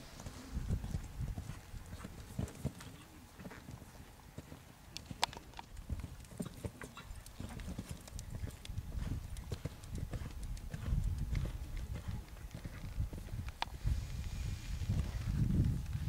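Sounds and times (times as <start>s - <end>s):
horse hoofbeats on soft ground: 0.2s - 14.2s.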